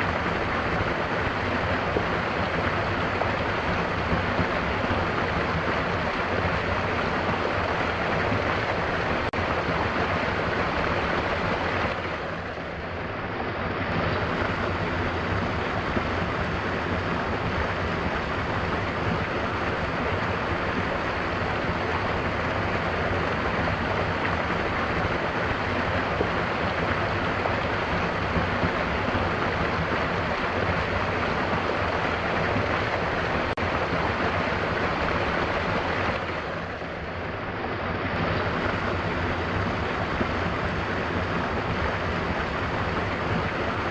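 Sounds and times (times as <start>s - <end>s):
waterfall roaring: 0.0s - 43.9s.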